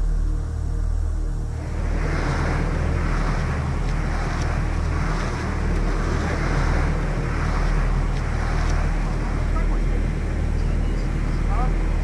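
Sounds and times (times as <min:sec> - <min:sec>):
low hum: 0:00.0 - 0:12.0
wind buffeting microphone: 0:00.0 - 0:12.0
river rushing: 0:01.5 - 0:12.0.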